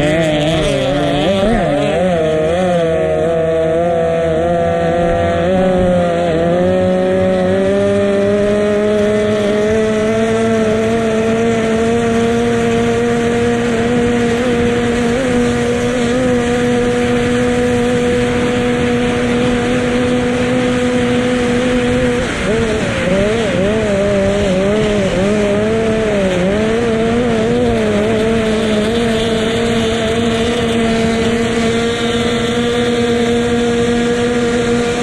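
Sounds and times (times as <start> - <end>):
powerboat engine running: 0.0 - 35.0.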